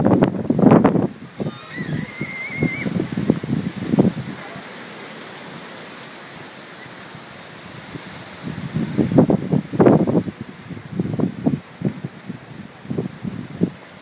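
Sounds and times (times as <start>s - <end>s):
rush of wind: 0.0s - 14.0s
surf: 0.0s - 14.0s
wind gusts buffeting microphone: 0.0s - 14.0s.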